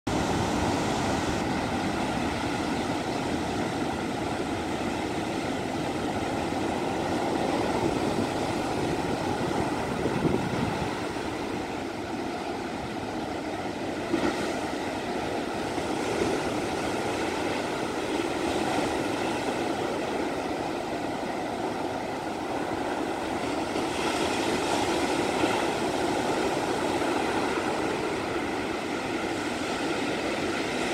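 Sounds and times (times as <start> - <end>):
waves breaking on a beach: 0.1 - 30.9.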